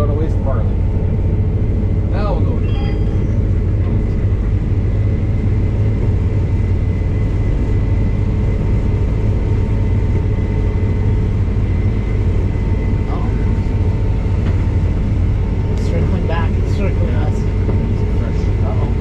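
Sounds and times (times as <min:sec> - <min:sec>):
combine harvester engine drone: 0:00.0 - 0:19.0
faint steady whine: 0:00.0 - 0:19.0.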